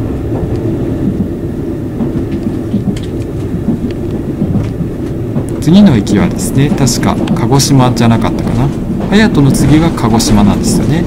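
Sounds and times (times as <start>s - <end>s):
train rumble inside passenger car: 0.0s - 11.0s.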